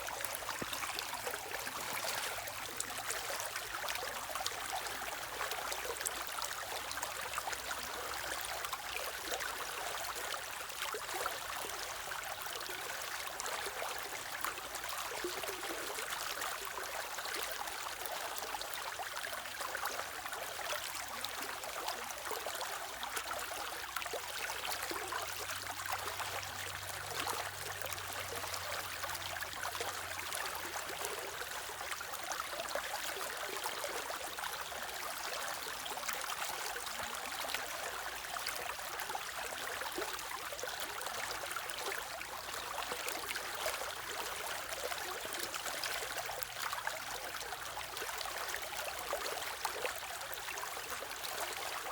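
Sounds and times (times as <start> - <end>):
stream water flowing: 0.0 - 51.9.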